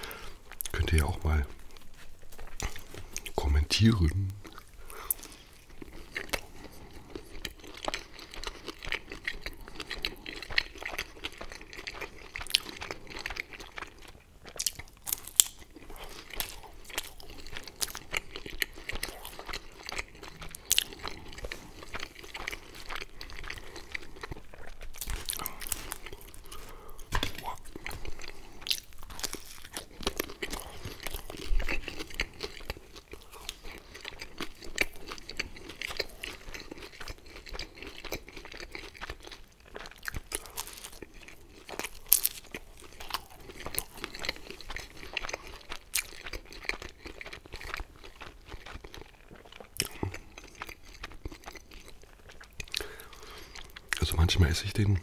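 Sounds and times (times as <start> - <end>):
man chewing crunchy pizza: 0.0 - 55.0.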